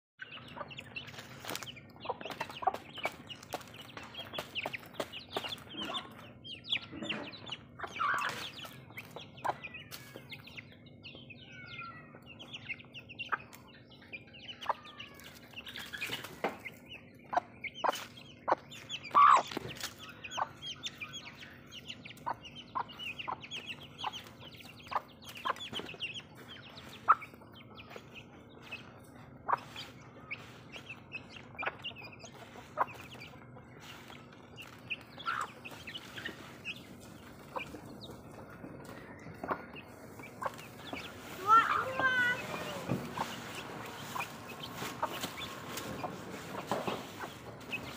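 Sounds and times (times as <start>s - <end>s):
hen clucking: 0.2s - 11.3s, 12.0s - 47.9s
chicks peeping: 0.2s - 47.9s.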